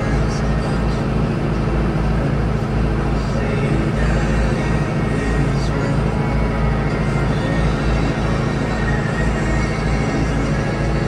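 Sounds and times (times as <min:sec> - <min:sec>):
music playing: 0:00.0 - 0:11.0
tractor diesel engine running: 0:00.0 - 0:11.0.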